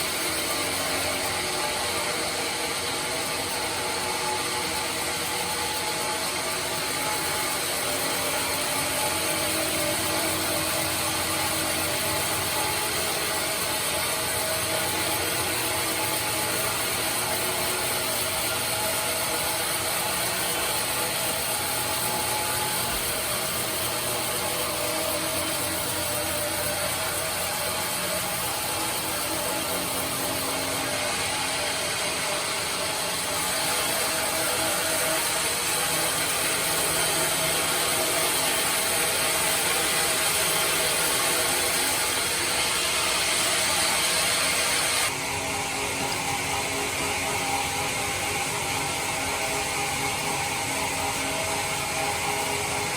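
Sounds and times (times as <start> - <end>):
band saw running: 0.0 - 52.9.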